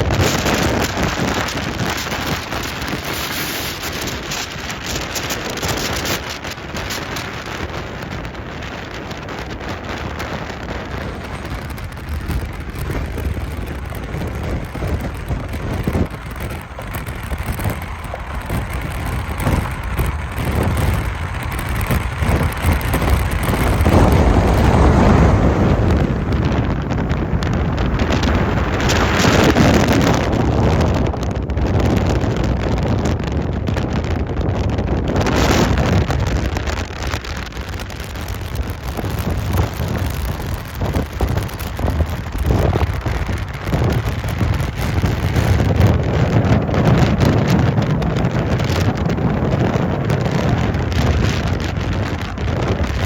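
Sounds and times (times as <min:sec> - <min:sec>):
vehicle rumble: 0:00.0 - 0:53.0
wind buffeting microphone: 0:00.0 - 0:53.0.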